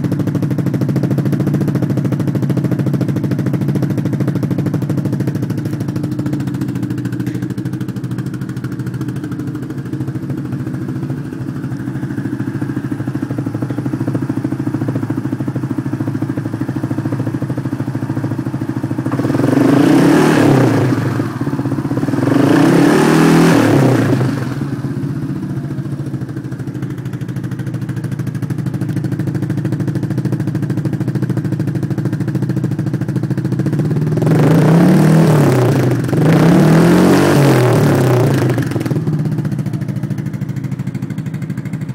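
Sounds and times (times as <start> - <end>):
engine idling and revving: 0.0 - 41.9.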